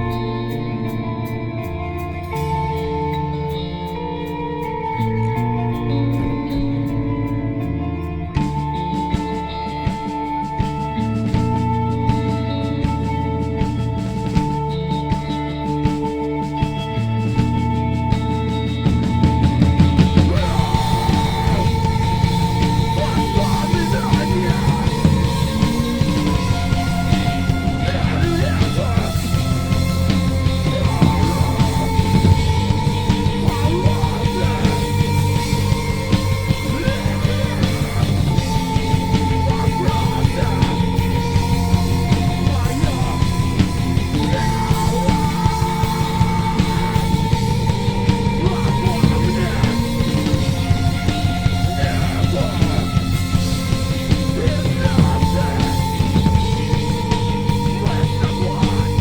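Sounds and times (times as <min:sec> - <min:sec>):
bass guitar: 0:00.0 - 0:59.0
distorted guitars: 0:00.0 - 0:59.0
lead guitar holding long notes: 0:00.0 - 0:59.0
pounding drums: 0:08.4 - 0:59.0.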